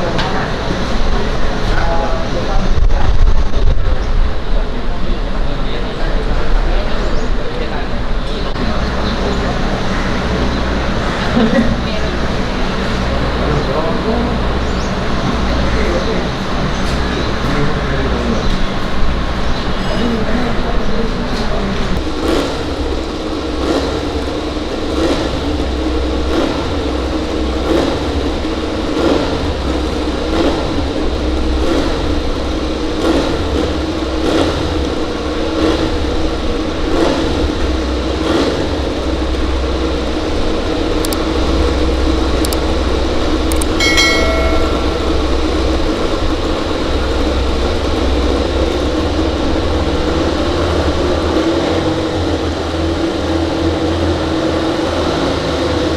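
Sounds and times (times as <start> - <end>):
racing motorcycle engines droning: 0.0 - 55.9.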